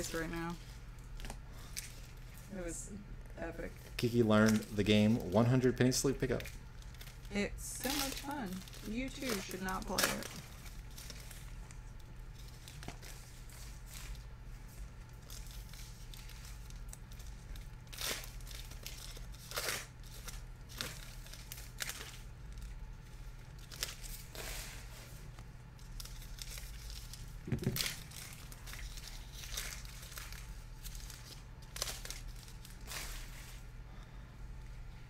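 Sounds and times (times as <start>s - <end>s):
foil wrappers torn and crinkled: 0.0s - 2.7s, 3.6s - 33.8s.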